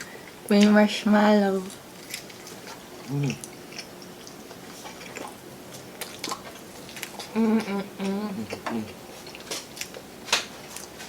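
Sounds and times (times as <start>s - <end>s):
soft chewing: 1.6s - 11.0s.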